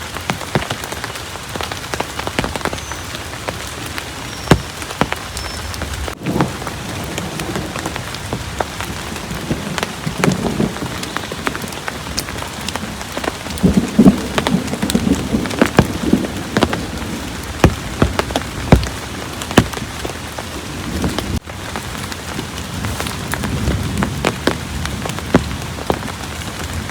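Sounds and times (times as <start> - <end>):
heavy rain falling: 0.0 - 26.9
thunder rumbling: 1.5 - 26.9.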